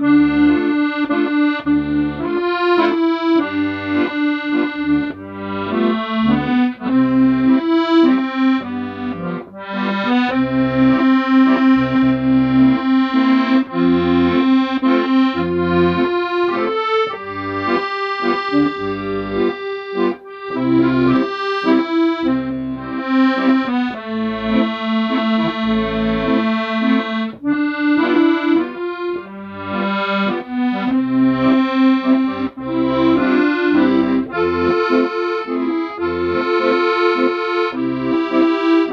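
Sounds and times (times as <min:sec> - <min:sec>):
accordion playing slow melody: 0:00.0 - 0:38.9.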